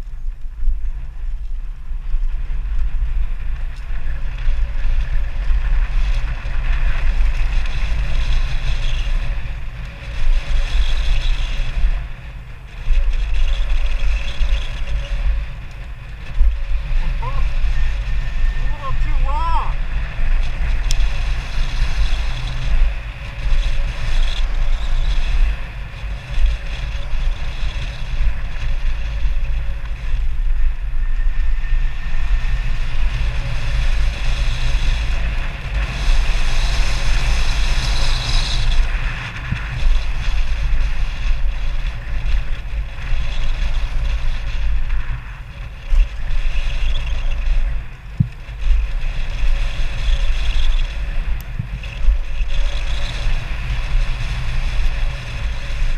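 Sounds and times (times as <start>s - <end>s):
bike tyres rolling over dirt: 0.0s - 55.9s
wind buffeting microphone: 0.0s - 55.9s.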